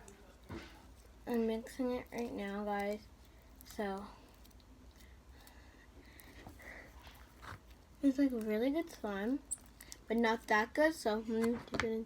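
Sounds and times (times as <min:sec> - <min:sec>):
slime squishing by hand: 0:00.0 - 0:10.8.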